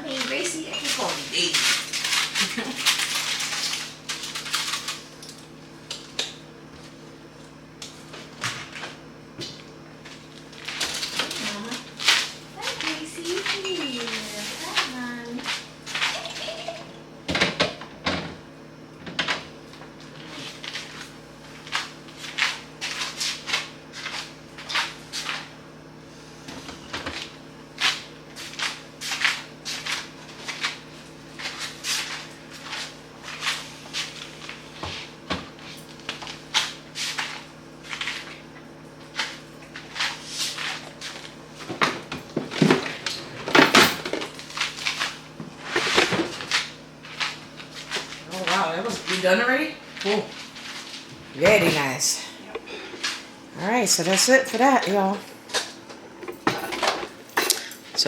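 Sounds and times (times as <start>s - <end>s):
refrigerator hum: 0.0s - 58.0s.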